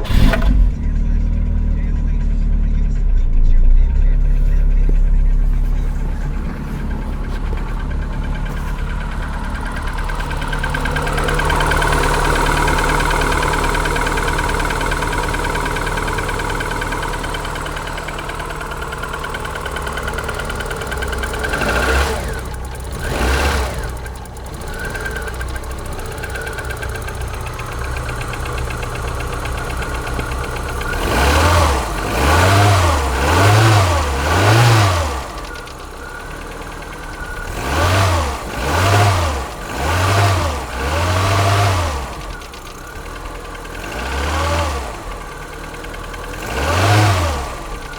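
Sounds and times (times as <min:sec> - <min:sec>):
car engine idling with knocking: 0:00.0 - 0:47.9
engine revving: 0:00.0 - 0:47.9.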